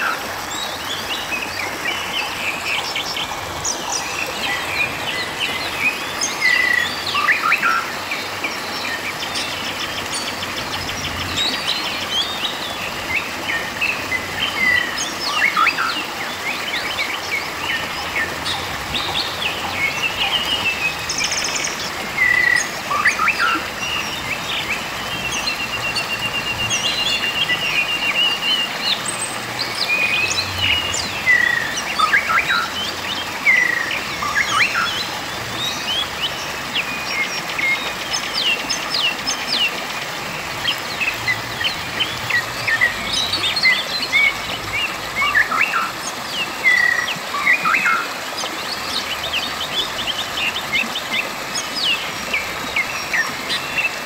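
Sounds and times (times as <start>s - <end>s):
birds chirping: 0.0s - 54.0s
river water rushing over rocks: 0.0s - 54.0s.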